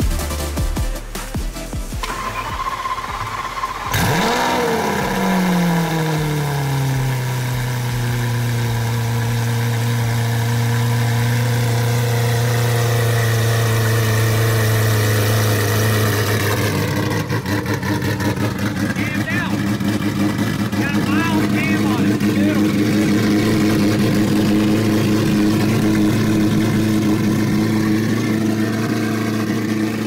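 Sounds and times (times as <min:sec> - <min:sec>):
sports car engine idling: 0:00.0 - 0:30.0.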